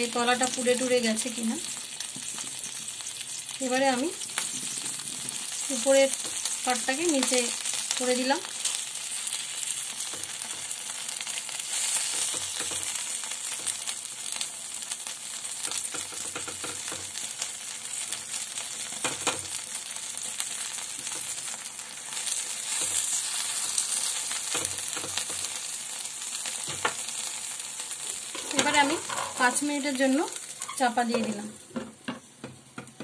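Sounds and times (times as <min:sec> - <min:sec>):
food sizzling in oil: 0:00.0 - 0:33.0
sharp clicks in frying: 0:00.0 - 0:33.0.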